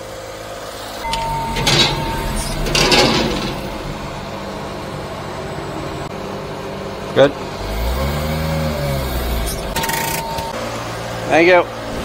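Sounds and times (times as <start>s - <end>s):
small truck engine running: 0.0s - 12.0s.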